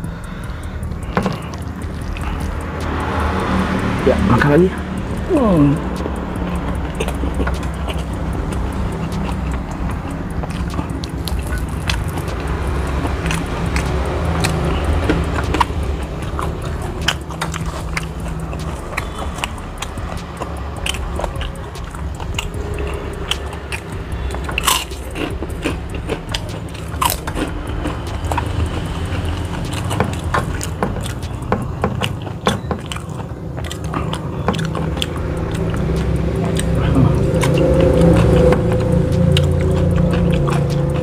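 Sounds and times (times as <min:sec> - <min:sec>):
low hum: 0:00.0 - 0:32.2, 0:33.2 - 0:41.0
chewing and mouth smacking: 0:00.0 - 0:41.0.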